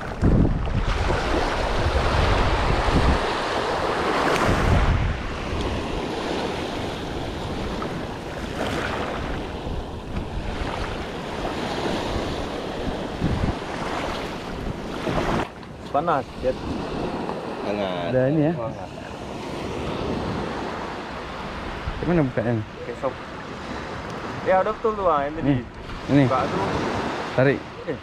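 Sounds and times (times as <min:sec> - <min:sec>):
wind buffeting microphone: 0:00.0 - 0:22.7
waves washing on sandy shore: 0:00.0 - 0:28.0.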